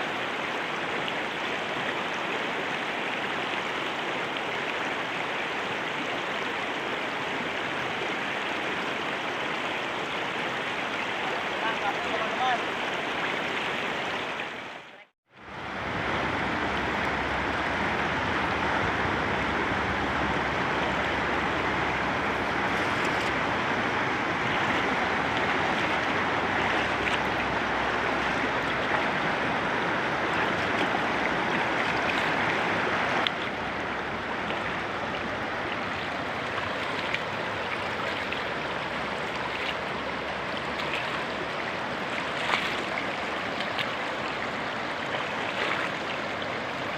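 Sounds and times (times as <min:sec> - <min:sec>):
river water flowing: 0:00.0 - 0:46.9.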